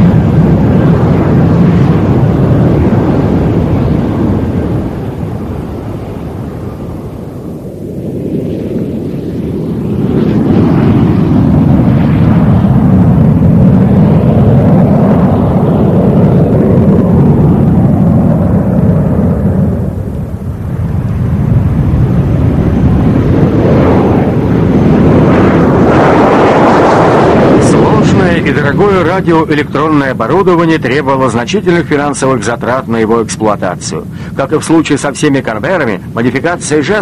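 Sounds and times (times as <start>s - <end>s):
jet engines rumbling: 0.0s - 37.0s.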